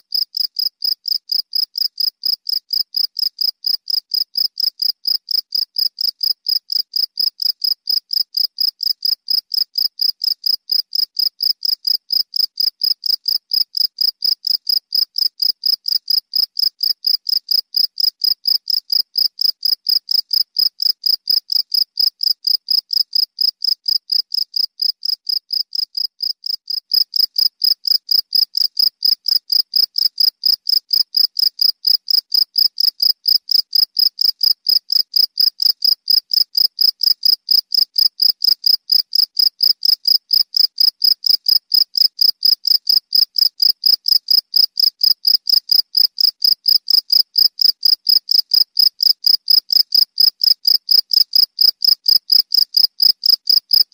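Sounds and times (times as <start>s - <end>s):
cricket chirping: 0.1s - 53.9s.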